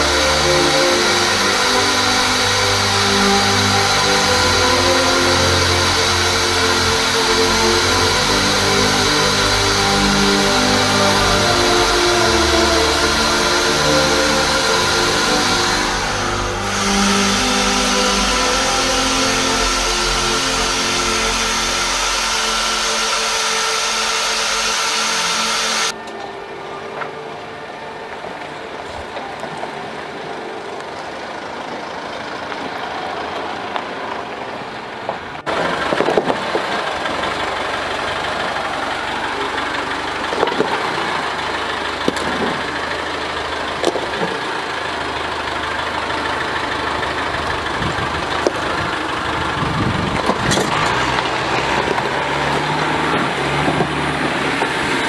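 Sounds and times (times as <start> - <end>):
vehicle engine crawling uphill: 0.0 - 55.0.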